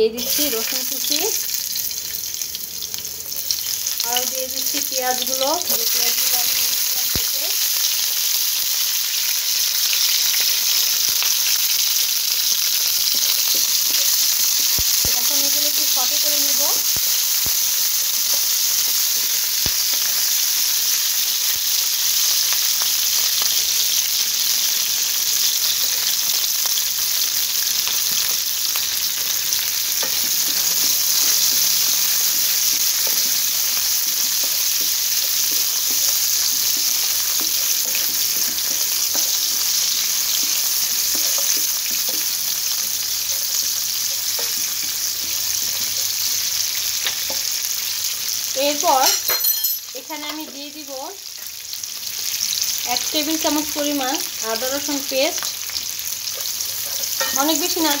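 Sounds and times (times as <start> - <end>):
onions and garlic sizzling in oil: 0.0 - 58.0.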